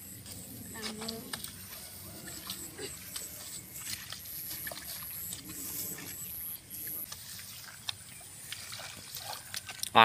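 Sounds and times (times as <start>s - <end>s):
footsteps through tall grass: 0.2s - 9.9s
splashing in muddy puddle: 0.2s - 10.0s.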